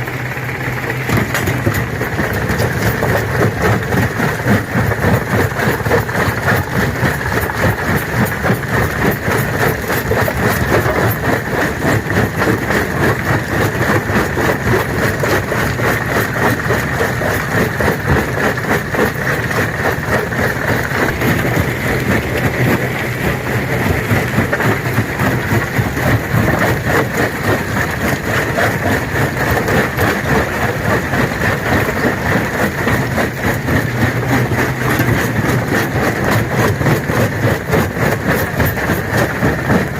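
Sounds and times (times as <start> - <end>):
heavy machine drone: 0.0 - 39.9.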